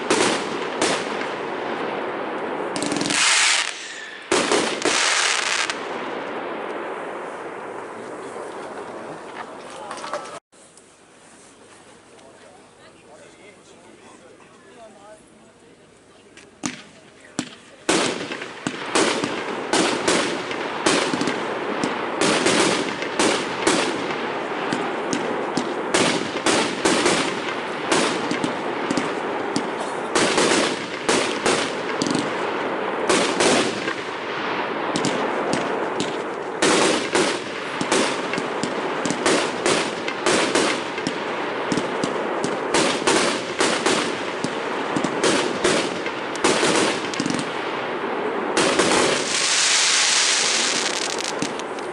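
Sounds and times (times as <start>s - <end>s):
fireworks bangs and crackles: 0.0s - 10.4s, 16.4s - 51.9s.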